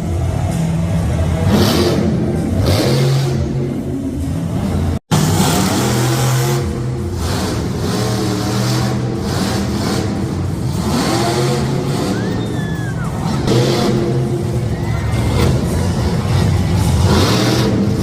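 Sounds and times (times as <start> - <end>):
monster truck engines revving: 0.0 - 18.0.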